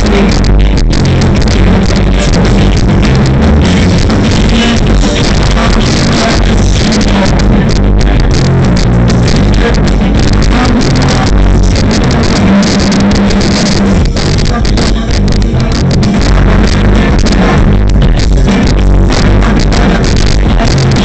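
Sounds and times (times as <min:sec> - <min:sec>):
live band through loudspeakers: 0:00.0 - 0:21.0.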